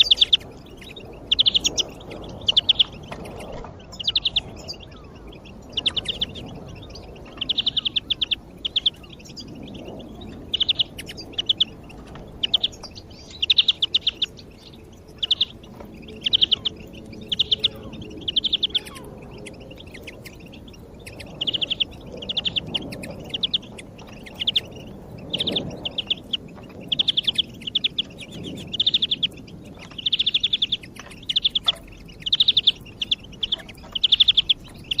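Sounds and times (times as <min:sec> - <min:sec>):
greenfinch trilling: 0:00.0 - 0:35.0.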